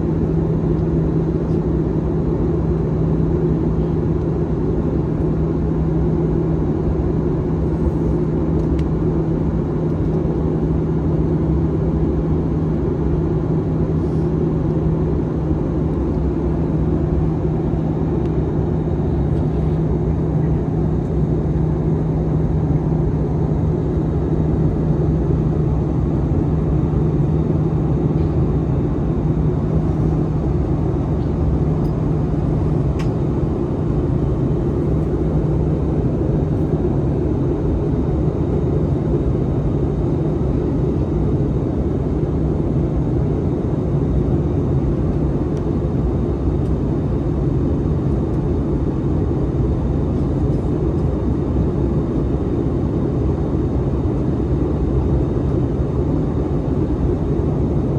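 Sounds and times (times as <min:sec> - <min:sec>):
airplane cabin roar: 0:00.0 - 0:57.9
low hum: 0:00.0 - 0:57.9.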